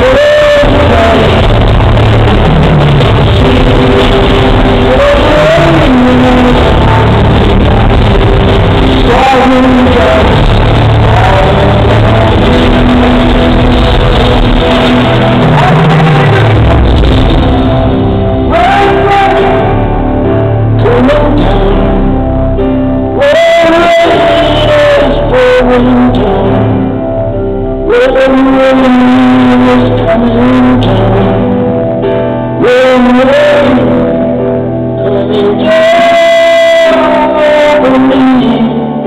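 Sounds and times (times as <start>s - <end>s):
person singing long held notes: 0.0s - 27.1s, 27.7s - 31.8s, 32.5s - 39.0s
live rock band playing: 0.0s - 39.0s.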